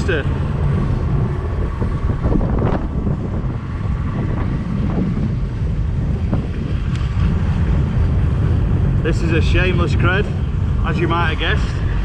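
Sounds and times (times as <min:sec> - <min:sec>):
roller coaster rumble: 0:00.0 - 0:12.0
wind buffeting microphone: 0:00.0 - 0:12.0.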